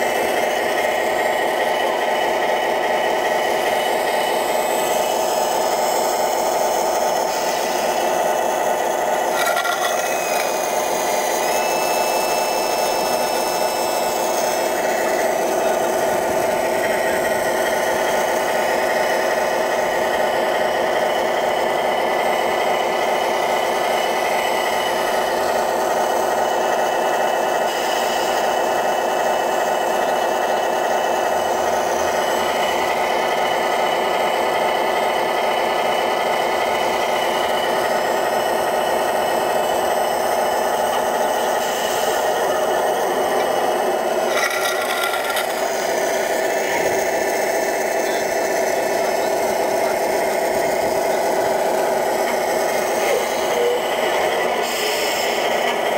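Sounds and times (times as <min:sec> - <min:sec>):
model loader whirring and grinding: 0:00.0 - 0:55.9.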